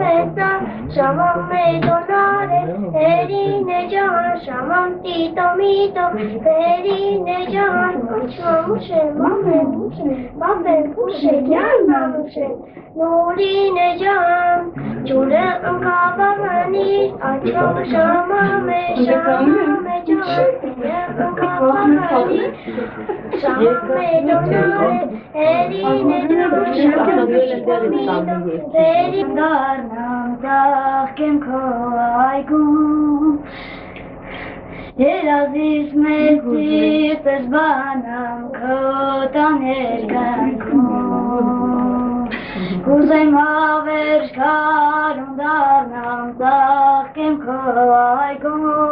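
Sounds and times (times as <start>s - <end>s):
girl singing: 0.0s - 33.5s, 34.9s - 48.9s.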